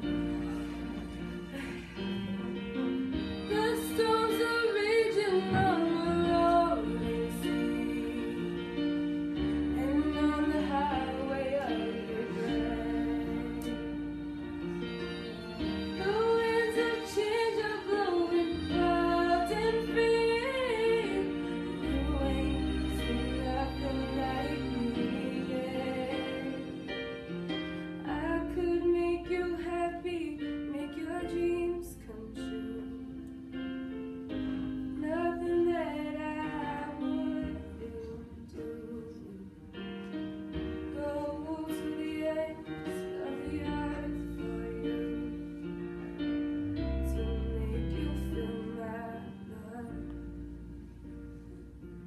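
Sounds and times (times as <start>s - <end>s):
instrumental accompaniment with bass: 0.0s - 52.0s.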